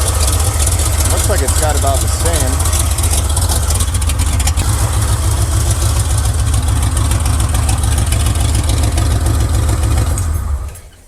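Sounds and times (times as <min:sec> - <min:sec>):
pickup engine idling with misfire: 0:00.0 - 0:11.0.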